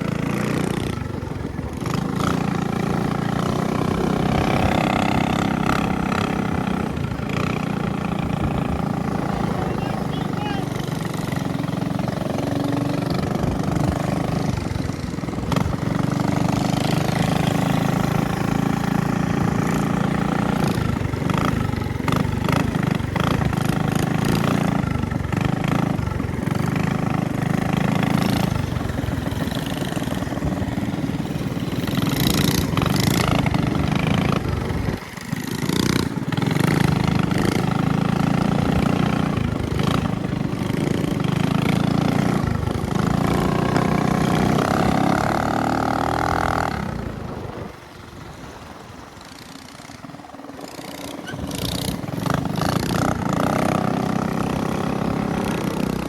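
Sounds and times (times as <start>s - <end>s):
minibike engine running: 0.0s - 56.0s.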